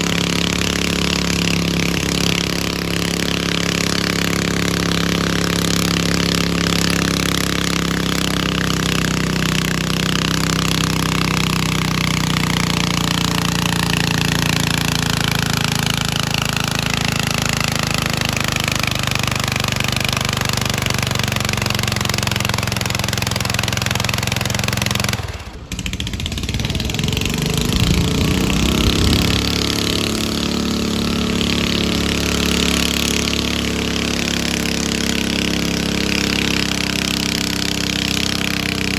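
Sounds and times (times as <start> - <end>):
engine revving: 0.0 - 38.9
garden tractor engine running: 0.0 - 38.9.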